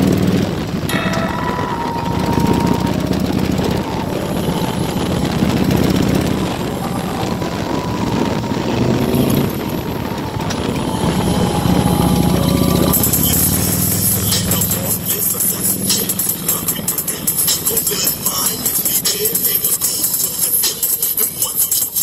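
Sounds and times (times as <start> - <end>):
road and air noise: 0.0 - 21.4
motorcycle engines droning: 0.0 - 22.0.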